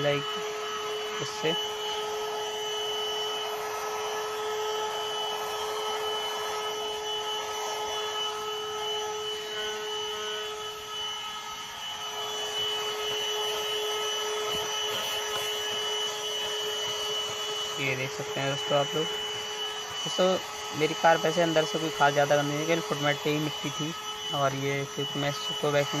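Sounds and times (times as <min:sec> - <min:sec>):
handheld vacuum cleaner running: 0:00.0 - 0:26.0.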